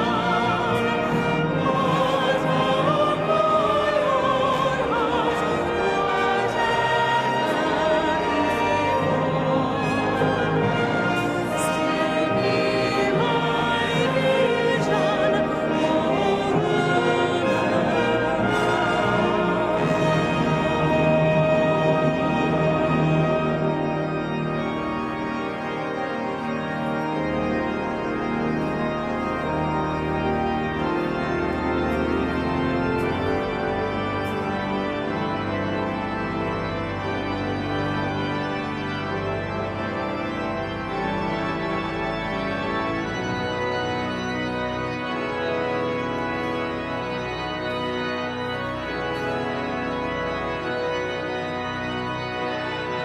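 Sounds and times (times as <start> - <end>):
pipe organ chords: 0.0 - 53.0.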